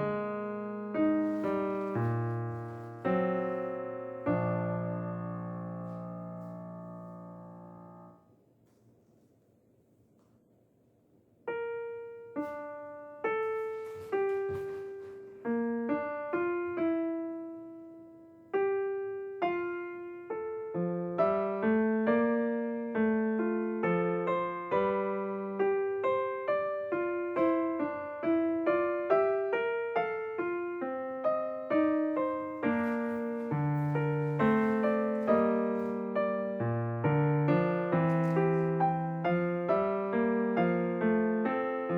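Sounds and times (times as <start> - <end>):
solo piano melody: 0.0 - 8.4, 11.4 - 41.9.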